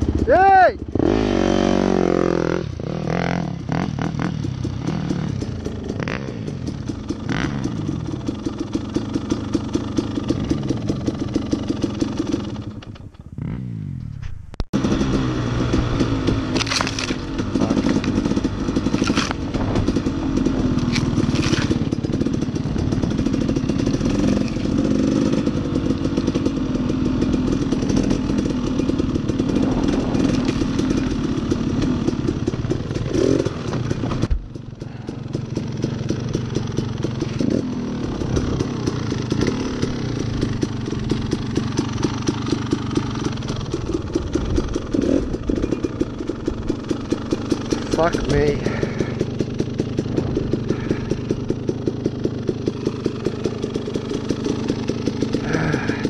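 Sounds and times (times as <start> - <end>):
dirt bike engine revving: 0.0 - 12.8, 13.4 - 56.0.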